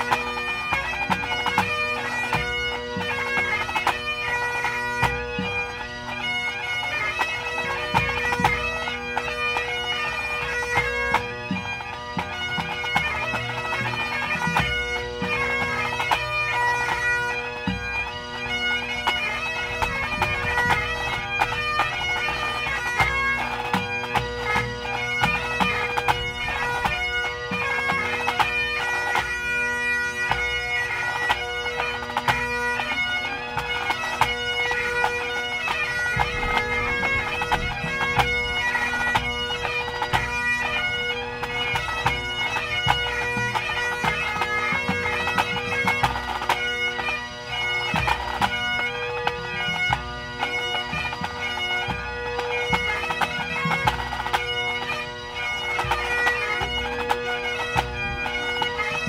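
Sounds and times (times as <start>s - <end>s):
bagpipes playing: 0.0s - 59.0s
pipe band drums: 0.0s - 59.0s.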